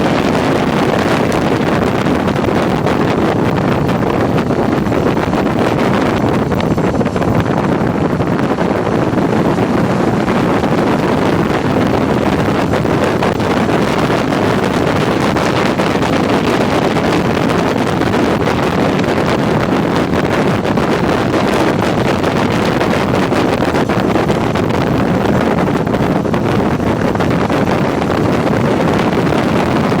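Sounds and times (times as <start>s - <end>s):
motorcycle running: 0.0s - 30.0s
wind rushing on microphone: 0.0s - 30.0s.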